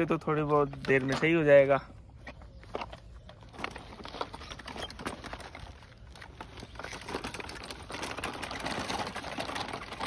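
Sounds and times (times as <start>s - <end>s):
plastic wheels rolling over gravel: 0.0s - 10.0s.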